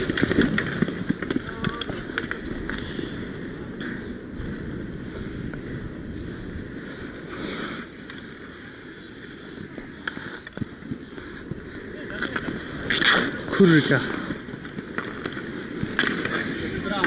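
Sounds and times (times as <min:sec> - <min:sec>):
skate wheels rolling: 0:00.0 - 0:17.0.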